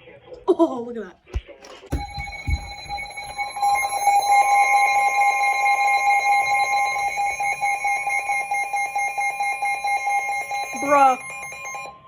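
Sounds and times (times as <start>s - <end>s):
higher electronic tone: 1.9s - 12.0s
weather radio alert tone: 1.9s - 12.0s.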